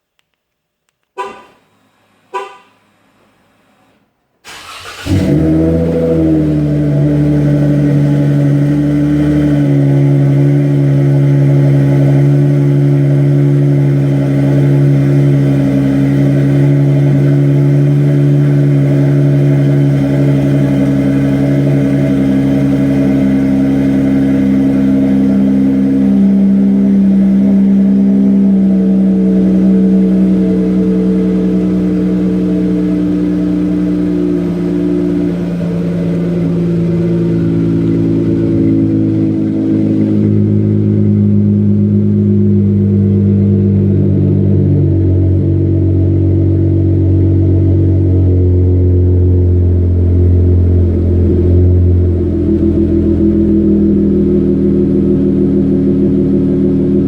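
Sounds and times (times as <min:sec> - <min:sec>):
car exhaust droning: 0:04.5 - 0:57.0.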